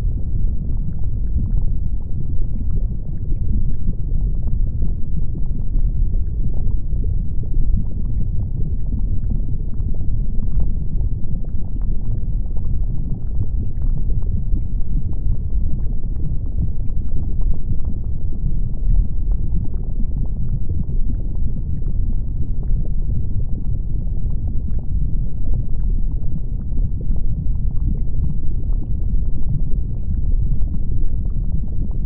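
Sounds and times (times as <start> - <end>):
deep rumble of erupting lava: 0.0 - 32.0.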